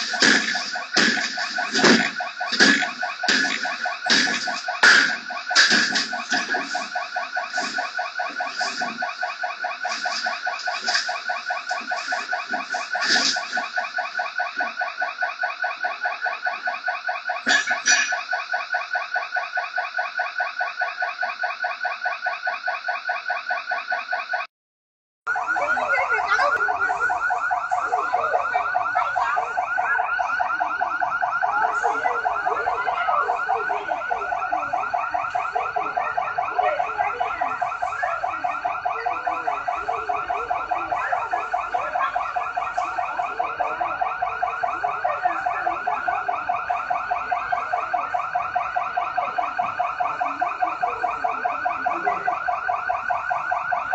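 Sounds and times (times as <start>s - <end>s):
burglar alarm ringing: 0.0s - 24.5s, 25.3s - 53.9s.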